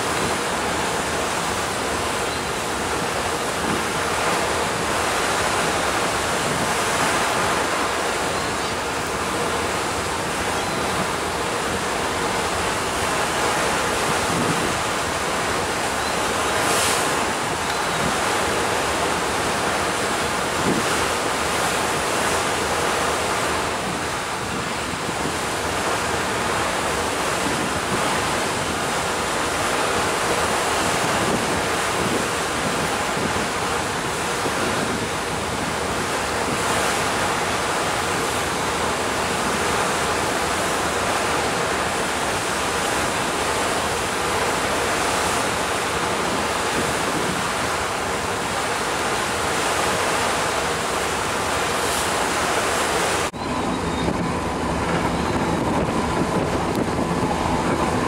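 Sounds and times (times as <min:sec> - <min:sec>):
sea water washing: 0:00.0 - 0:58.0
wind buffeting microphone: 0:00.0 - 0:58.0.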